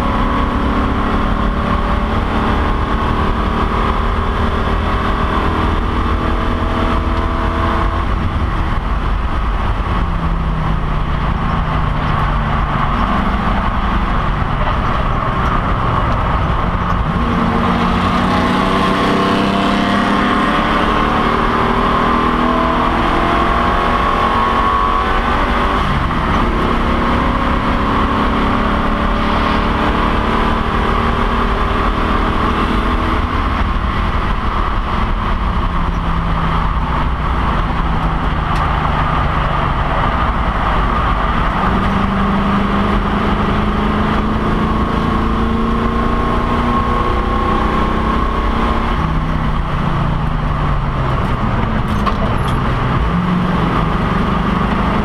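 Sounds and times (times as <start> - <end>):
race car engine accelerating: 0.0 - 55.0
road and wind noise: 0.0 - 55.0.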